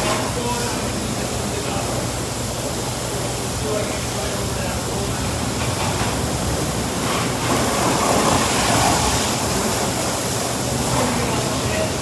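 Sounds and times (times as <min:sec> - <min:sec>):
car wash water jets hissing: 0:00.0 - 0:12.0.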